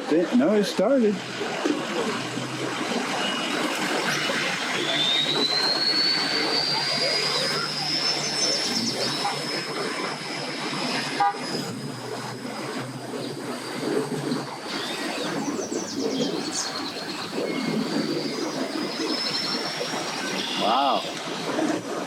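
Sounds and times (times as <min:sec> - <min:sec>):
outboard motor whining: 0:00.0 - 0:22.0.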